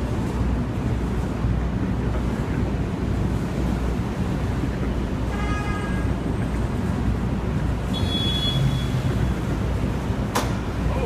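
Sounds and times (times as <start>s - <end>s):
low rumble of car traffic: 0.0s - 11.0s.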